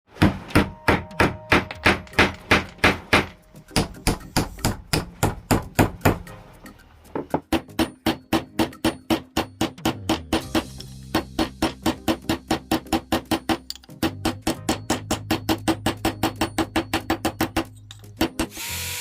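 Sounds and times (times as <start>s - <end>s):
hammer striking: 0.1s - 6.4s, 7.2s - 18.5s.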